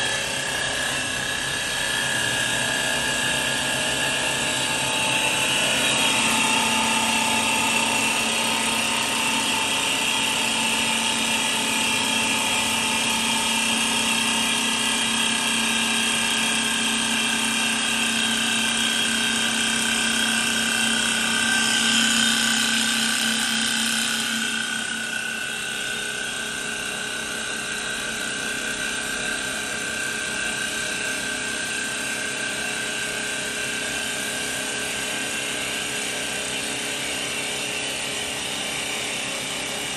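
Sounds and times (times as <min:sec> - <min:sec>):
cutter shaving wood: 0:00.0 - 0:39.9
wood lathe spindle whining: 0:00.0 - 0:39.9.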